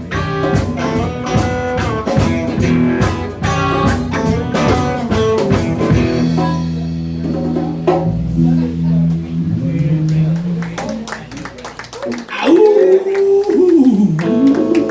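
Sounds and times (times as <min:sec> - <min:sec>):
blues band playing: 0:00.0 - 0:14.9.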